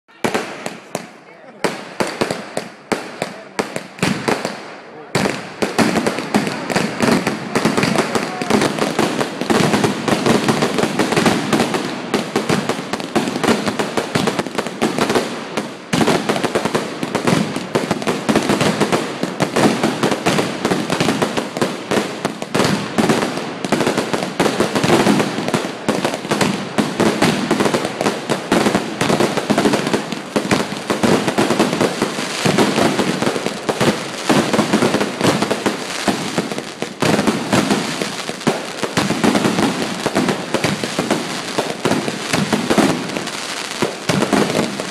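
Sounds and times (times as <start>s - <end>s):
fireworks bangs and crackles: 0.1s - 44.9s.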